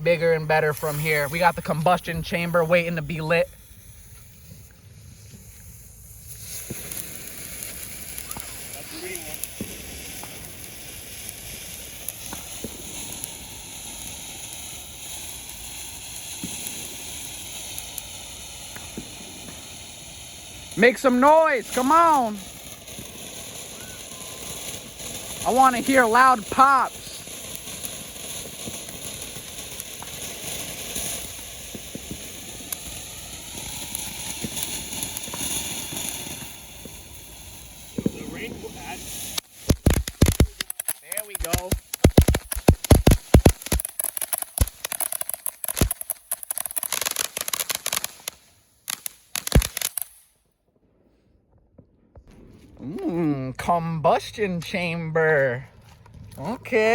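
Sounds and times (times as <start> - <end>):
faint crackles: 0.0 - 50.3
firework fuse sizzling: 0.0 - 50.5.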